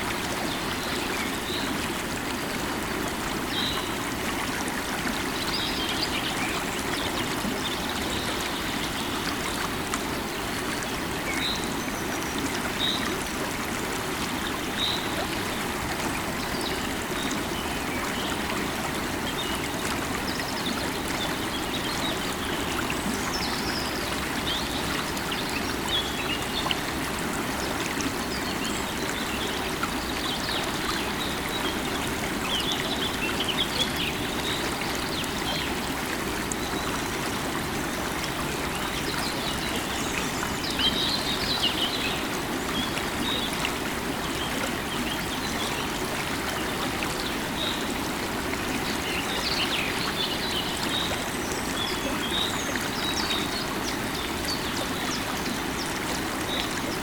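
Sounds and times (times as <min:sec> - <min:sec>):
river water running over stones: 0:00.0 - 0:57.0.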